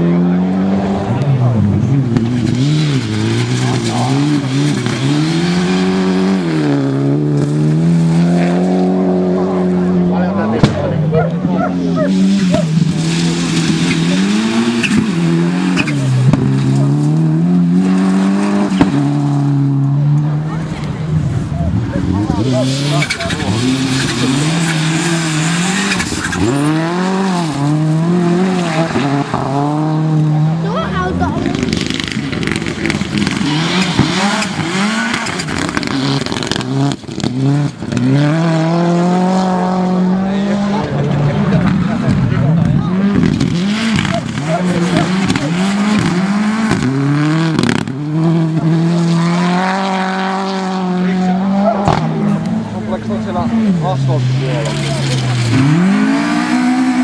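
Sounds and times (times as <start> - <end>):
rally car engine accelerating: 0.0 - 57.0.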